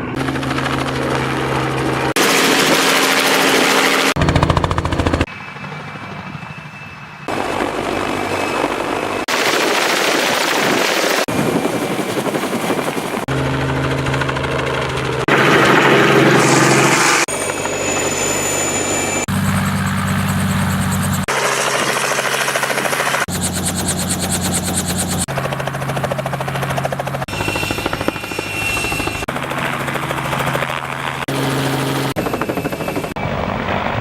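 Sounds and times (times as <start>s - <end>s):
helicopter rotor and engine: 0.0s - 34.0s.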